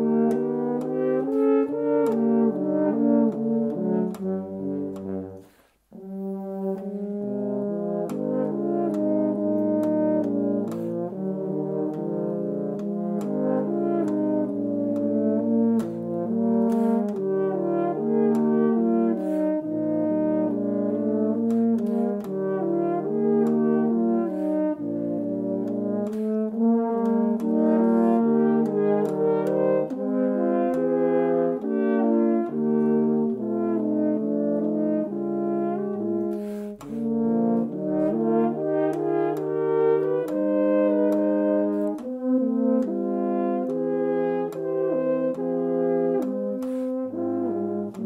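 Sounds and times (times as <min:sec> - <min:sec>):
horns playing in harmony: 0:00.0 - 0:48.0.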